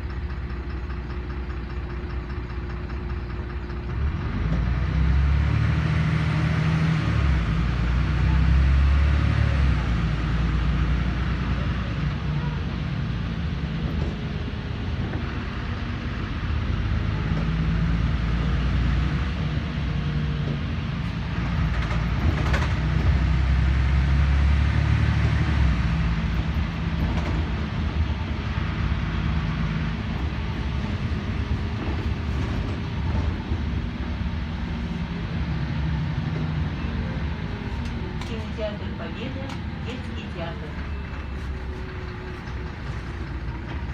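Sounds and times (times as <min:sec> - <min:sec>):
bus diesel engine running: 0:00.0 - 0:43.9
road rumble: 0:00.0 - 0:43.9.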